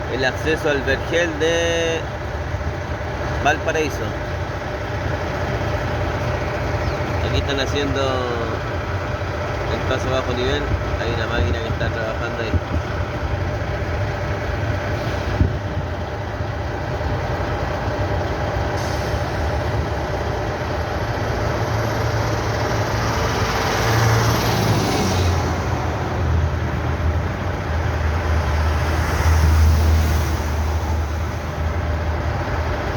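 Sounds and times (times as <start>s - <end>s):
diesel truck engine humming: 0.0s - 32.9s
road noise: 0.0s - 32.9s.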